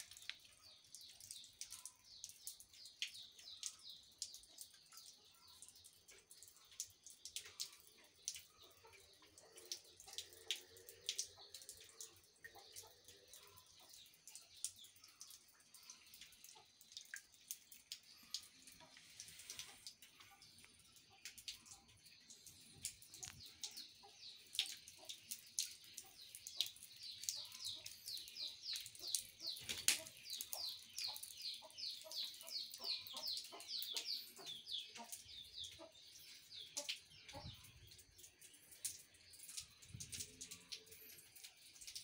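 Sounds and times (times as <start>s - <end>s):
water drips and splashes: 0.0s - 42.0s.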